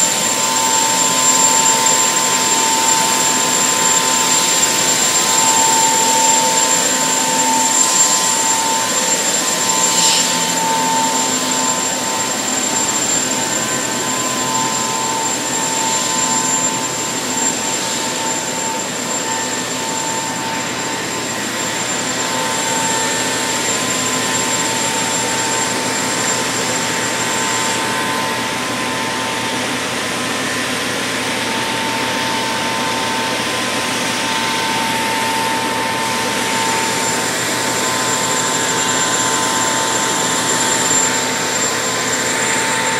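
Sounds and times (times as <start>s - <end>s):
industrial machinery drone: 0.0s - 42.9s
thin high whine: 0.0s - 42.9s.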